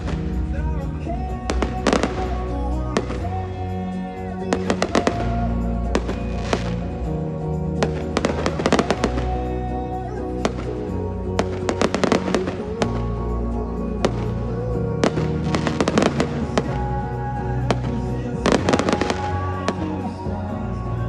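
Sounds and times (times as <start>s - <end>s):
fireworks crackling: 0.0s - 20.8s
music with sustained notes: 0.0s - 21.0s.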